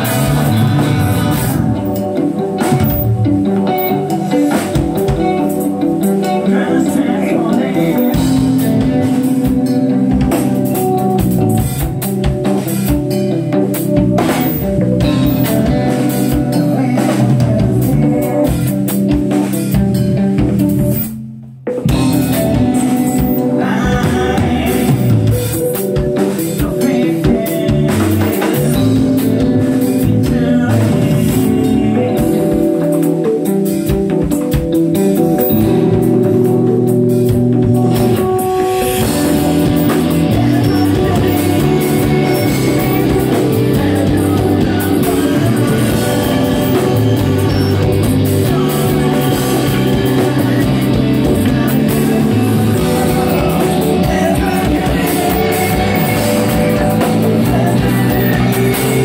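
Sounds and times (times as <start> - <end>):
person singing: 0.0 - 19.6, 21.9 - 34.3, 37.7 - 59.0
bass guitar: 0.0 - 59.0
drum kit: 0.0 - 59.0
electric guitar: 0.0 - 59.0.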